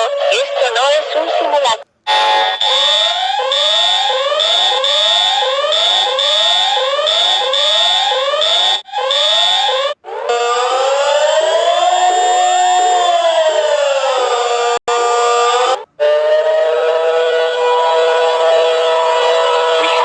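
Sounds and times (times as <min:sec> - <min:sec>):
siren with rising tones: 0:02.1 - 0:20.0
whooping alarm: 0:02.1 - 0:20.0.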